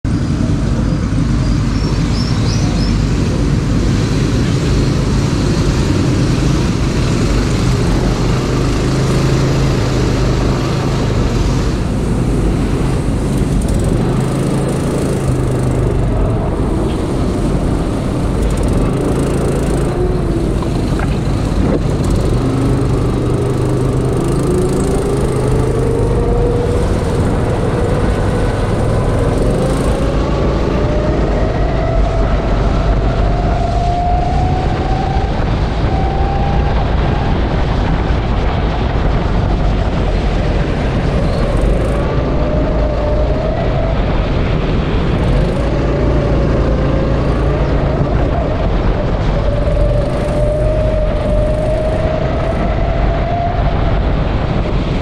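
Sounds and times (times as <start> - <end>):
go-kart engine revving: 0.1 - 55.0.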